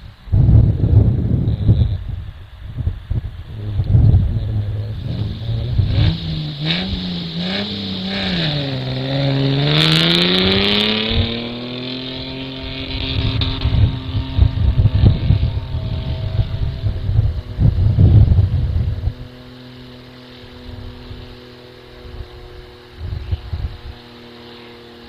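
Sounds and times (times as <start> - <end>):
off-road engine revving hard: 3.5 - 25.0.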